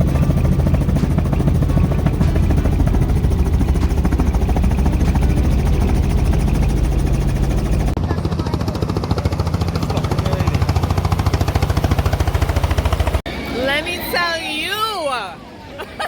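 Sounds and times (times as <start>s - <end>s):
helicopter rotor beating: 0.0s - 14.3s.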